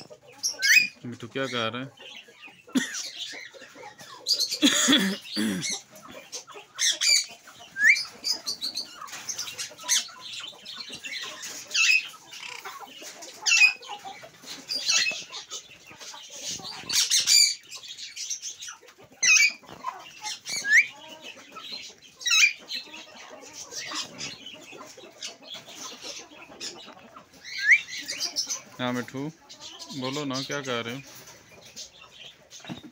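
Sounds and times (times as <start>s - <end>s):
parakeet chirps and squawks: 0.0s - 1.0s, 2.0s - 28.8s.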